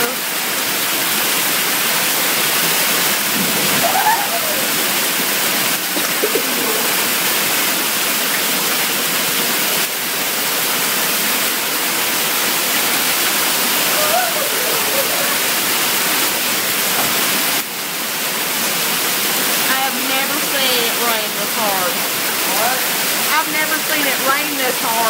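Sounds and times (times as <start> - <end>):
hard rain pouring: 0.0 - 25.0.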